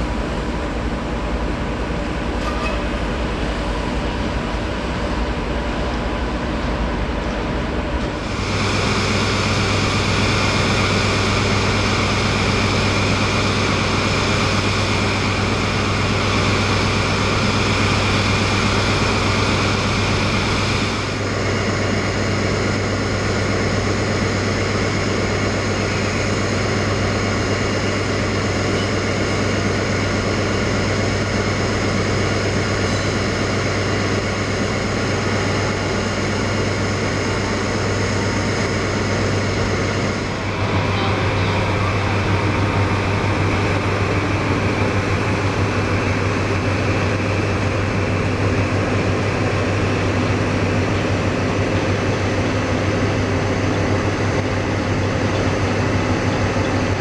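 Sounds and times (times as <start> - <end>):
diesel engine drone: 0.0 - 57.0
locomotive engine idling: 0.0 - 57.0.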